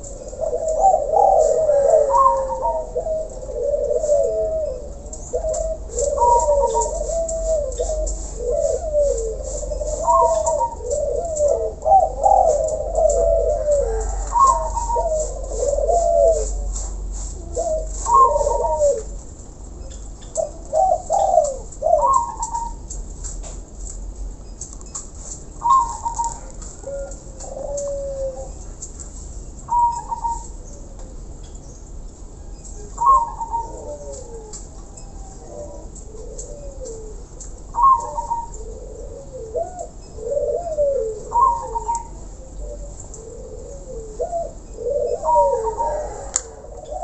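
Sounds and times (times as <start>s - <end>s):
doves cooing: 0.0s - 47.0s.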